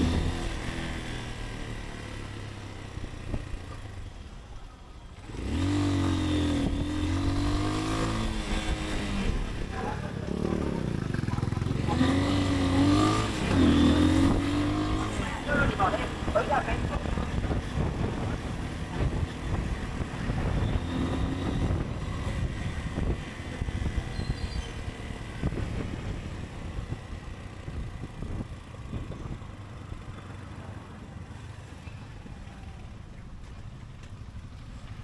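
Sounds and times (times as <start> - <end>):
motorcycle engine running: 0.0 - 35.0
road and wind noise: 0.0 - 35.0.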